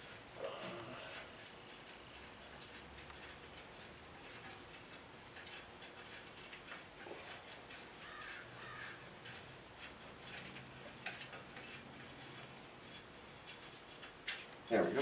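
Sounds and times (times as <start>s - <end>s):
hand tools clicking on metal: 0.0s - 15.0s.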